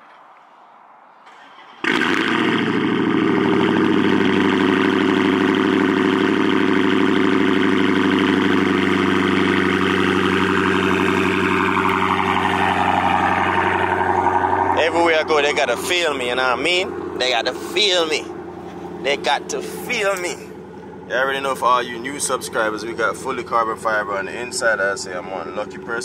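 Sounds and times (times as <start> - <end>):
car engine starting and idling: 1.2 - 26.0.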